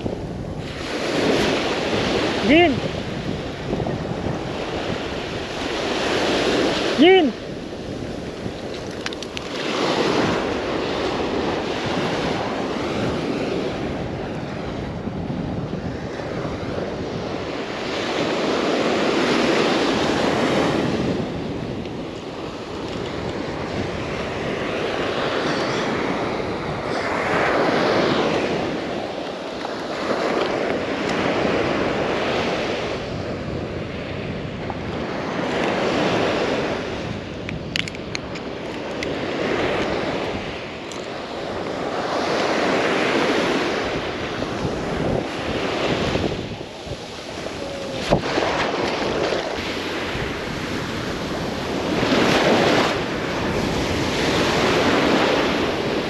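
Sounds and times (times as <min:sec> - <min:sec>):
ocean surf breaking: 0:00.0 - 0:56.0
wind on microphone: 0:00.0 - 0:56.0.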